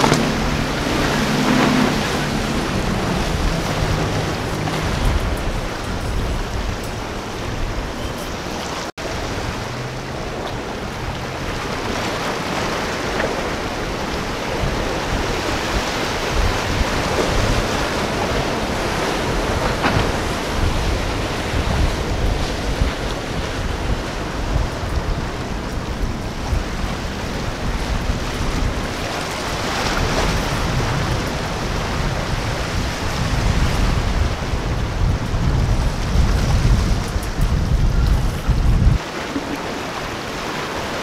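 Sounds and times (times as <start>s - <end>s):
breaking surf: 0.0s - 41.0s
outboard engine hum: 0.0s - 41.0s
wind noise: 0.0s - 41.0s.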